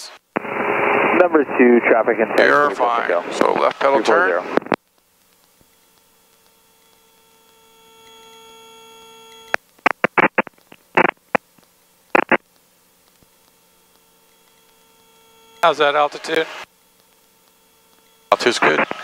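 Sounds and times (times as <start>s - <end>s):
electrical hum with pitched tones: 0.0s - 19.0s.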